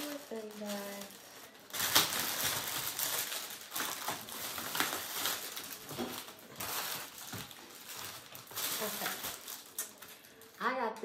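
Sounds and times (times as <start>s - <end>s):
plastic bags rustling: 0.0s - 10.8s.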